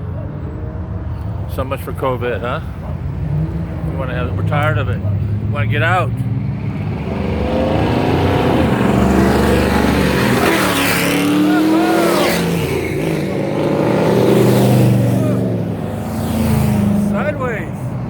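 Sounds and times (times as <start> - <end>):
cars revving past: 0.0 - 18.0.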